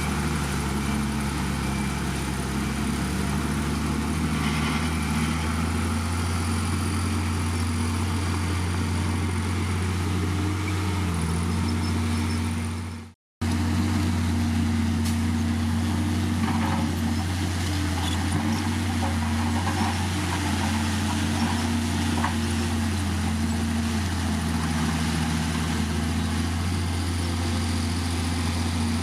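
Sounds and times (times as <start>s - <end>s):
heavy diesel engine humming: 0.0s - 29.0s.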